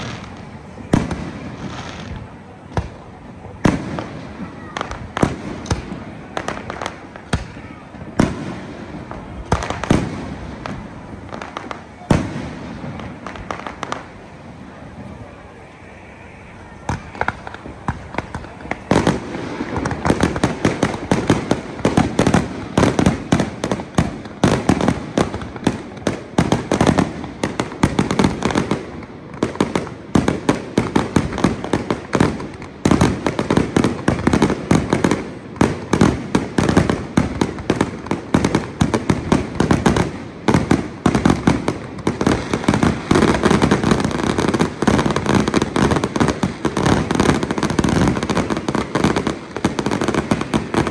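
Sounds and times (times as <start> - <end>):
fireworks bursting: 0.0 - 50.9.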